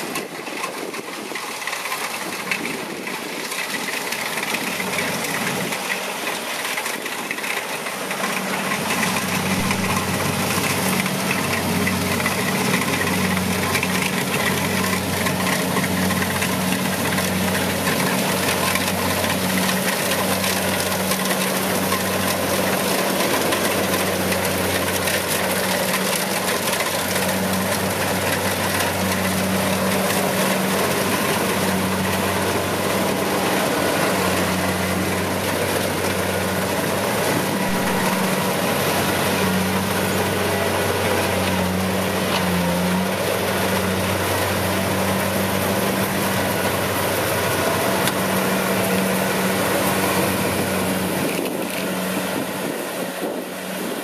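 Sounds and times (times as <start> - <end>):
combine harvester engine hum: 0.0 - 54.0
machinery noise: 0.0 - 54.0.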